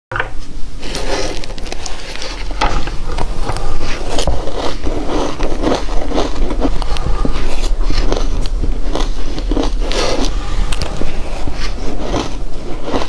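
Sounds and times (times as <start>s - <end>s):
ice crunching when chewed: 0.8s - 13.0s.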